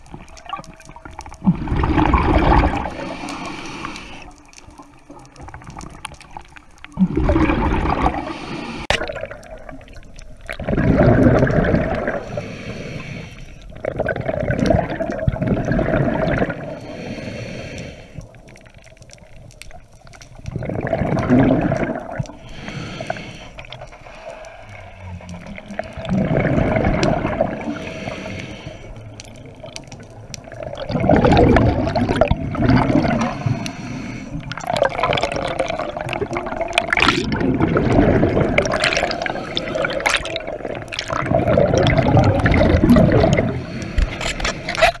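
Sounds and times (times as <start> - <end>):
scuba exhaled bubbles: 0.0 - 45.0
underwater water noise: 0.0 - 45.0.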